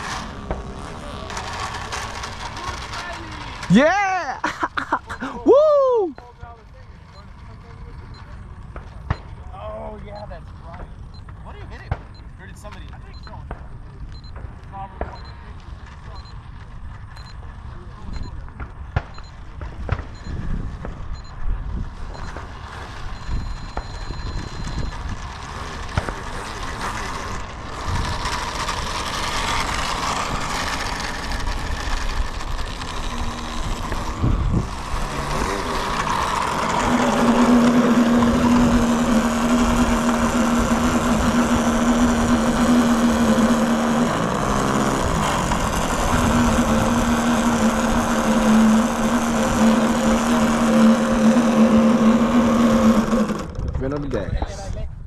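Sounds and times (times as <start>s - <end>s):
motor running: 0.0s - 54.4s.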